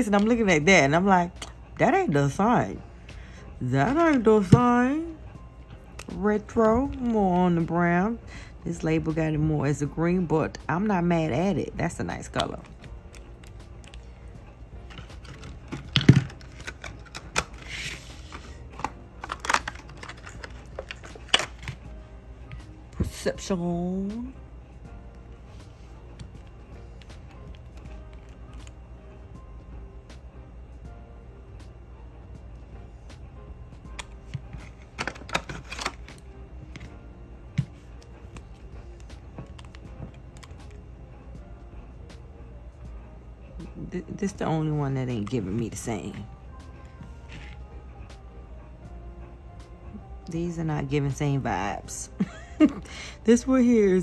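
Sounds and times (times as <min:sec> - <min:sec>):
quiet background music: 0:00.0 - 0:54.0.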